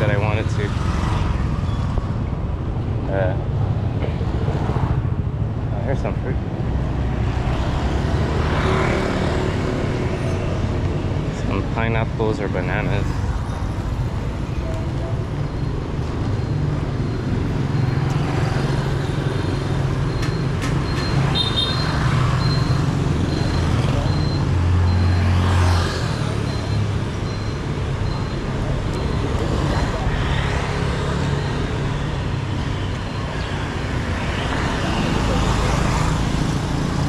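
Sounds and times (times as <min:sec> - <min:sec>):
passing vehicle engines: 0:00.0 - 0:37.0.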